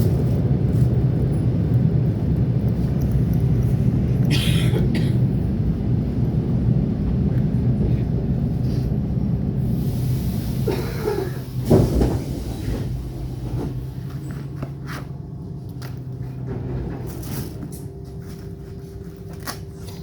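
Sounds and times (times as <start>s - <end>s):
electric train equipment humming: 0.0s - 19.9s.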